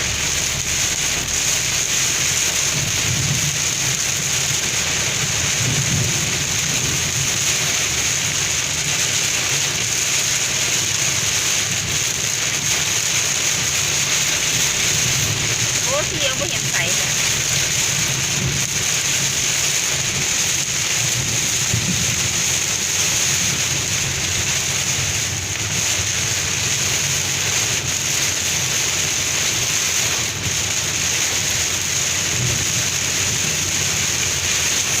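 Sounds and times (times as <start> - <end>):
heavy rain with hail: 0.0 - 35.0.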